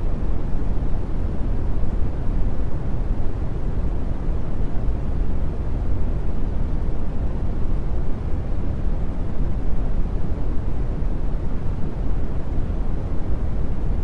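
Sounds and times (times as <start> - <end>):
brown noise hiss: 0.0 - 14.0.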